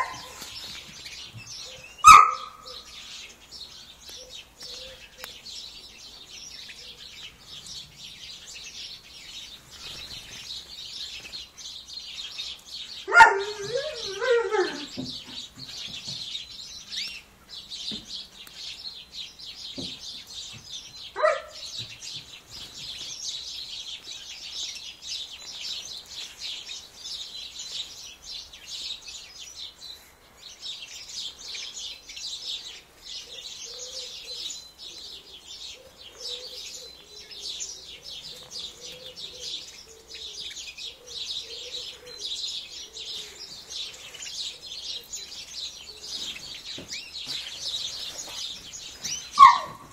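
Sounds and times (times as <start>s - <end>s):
songbirds chirping and twittering: 0.0s - 49.9s.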